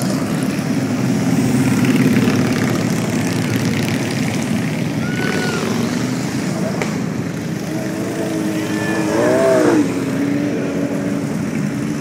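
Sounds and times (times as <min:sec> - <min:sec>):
motorcycles riding past: 0:00.0 - 0:12.0.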